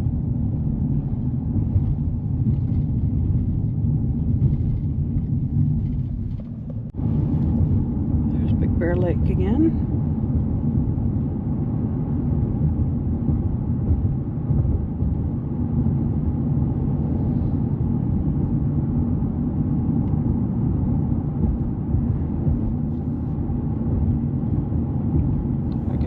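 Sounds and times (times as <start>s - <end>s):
road and engine rumble inside car: 0.0s - 26.0s.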